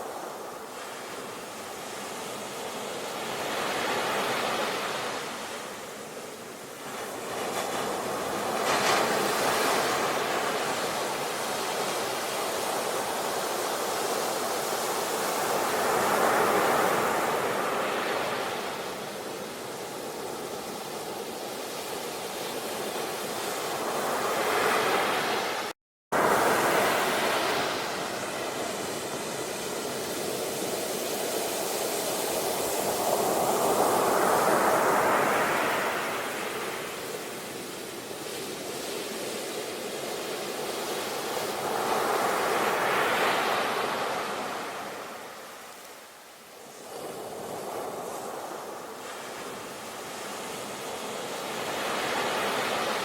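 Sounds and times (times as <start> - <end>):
ocean waves rushing in: 0.0 - 53.0.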